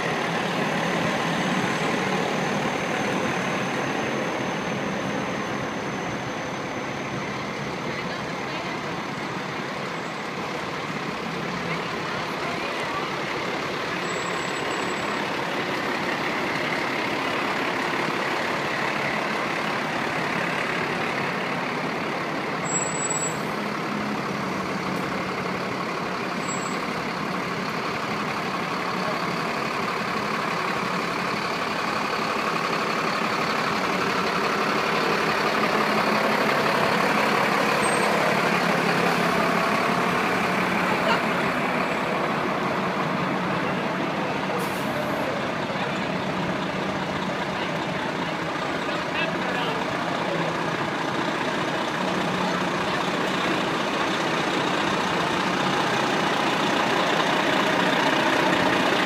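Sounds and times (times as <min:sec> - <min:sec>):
fire truck diesel engines: 0:00.0 - 0:59.0.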